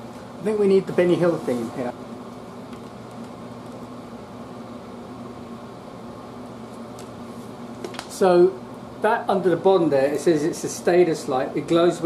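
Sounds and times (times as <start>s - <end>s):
air conditioner running: 0.0s - 12.0s.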